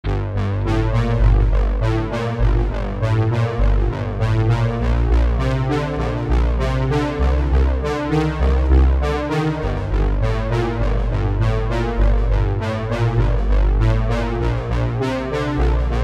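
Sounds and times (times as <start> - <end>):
synthesizer music with bass: 0.0 - 16.0.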